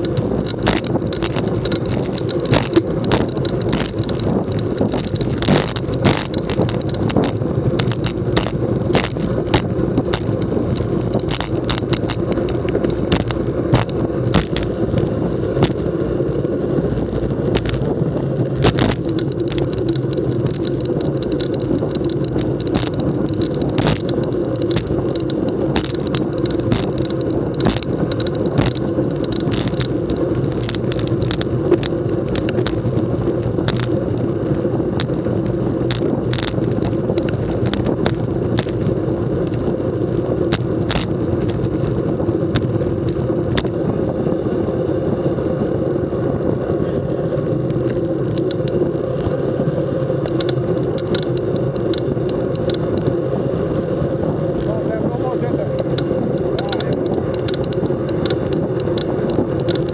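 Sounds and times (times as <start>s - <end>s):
clicks and rattles over bumps: 0.0s - 15.9s, 17.0s - 43.9s, 47.6s - 49.3s, 50.2s - 53.4s, 54.4s - 59.9s
wind and road noise: 0.0s - 59.9s.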